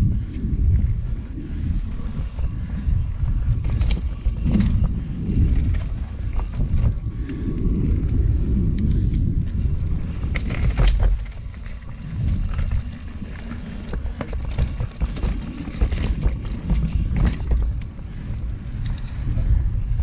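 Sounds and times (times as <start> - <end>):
bike clicks and rattles: 0.0 - 20.0
tyre noise: 0.0 - 20.0
wind rumbling on microphone: 0.0 - 20.0.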